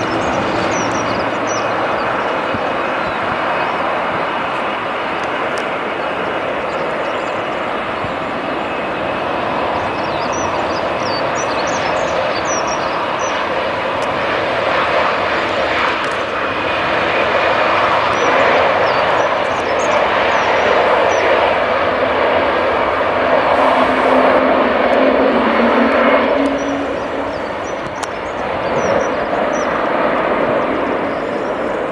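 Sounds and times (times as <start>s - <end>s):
jet engines at takeoff: 0.0s - 31.9s.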